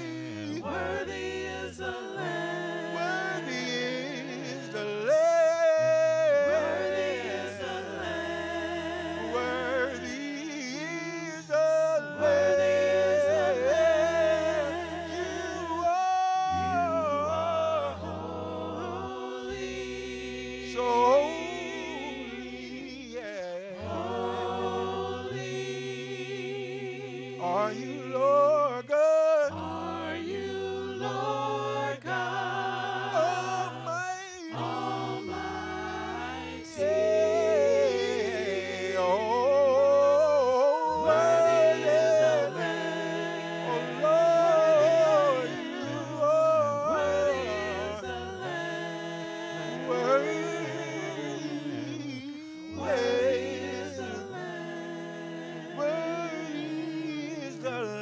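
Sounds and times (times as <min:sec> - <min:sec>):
gospel singers with lead voice: 0:00.0 - 0:58.0.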